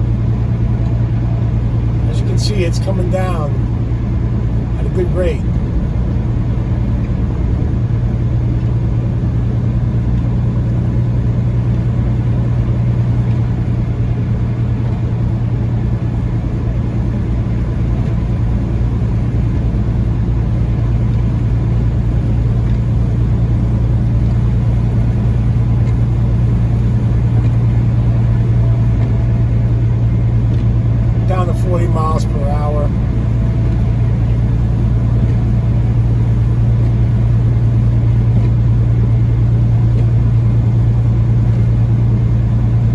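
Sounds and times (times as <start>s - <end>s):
truck engine drone in cab: 0.0s - 42.9s.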